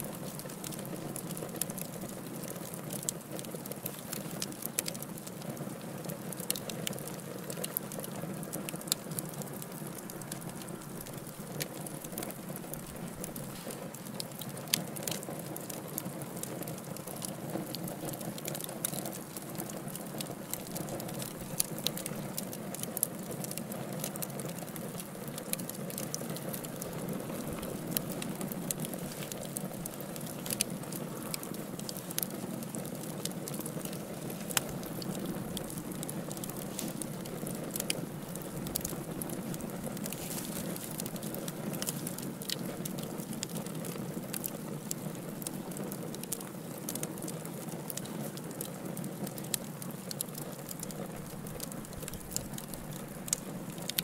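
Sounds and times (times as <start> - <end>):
wood fire crackles and pops: 0.0 - 54.0
fire flames rushing: 0.1 - 54.0.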